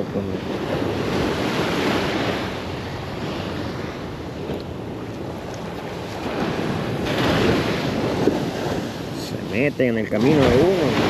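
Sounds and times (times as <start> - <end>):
surf washing on rocky shore: 0.0 - 11.0
wind on microphone: 0.0 - 11.0.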